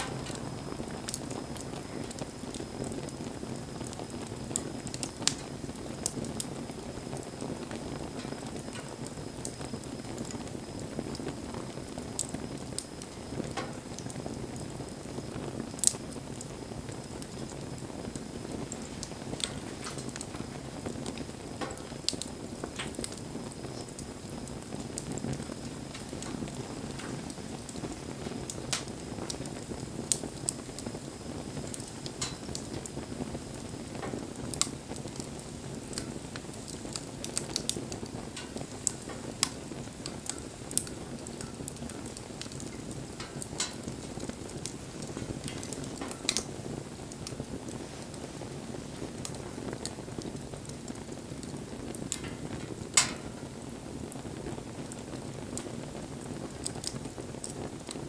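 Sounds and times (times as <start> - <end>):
low rush of flame: 0.0 - 58.0
wood fire crackling and popping: 0.0 - 58.0.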